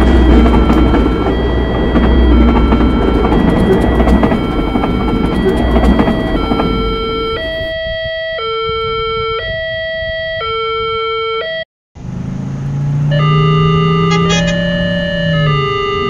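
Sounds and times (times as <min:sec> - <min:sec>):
two-tone crossing alarm: 0:00.0 - 0:11.6, 0:13.1 - 0:16.0.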